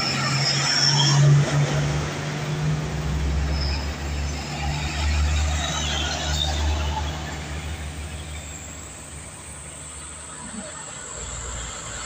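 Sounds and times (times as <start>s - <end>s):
distant trucks approaching: 0.0s - 12.0s
road traffic noise: 0.0s - 12.0s
truck passing close by: 0.0s - 12.0s.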